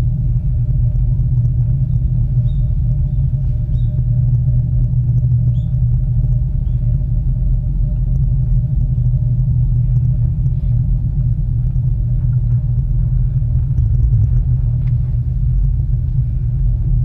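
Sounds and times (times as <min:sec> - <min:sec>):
faint steady hum: 0:00.0 - 0:17.0
gondola cabin low rumble: 0:00.0 - 0:17.0.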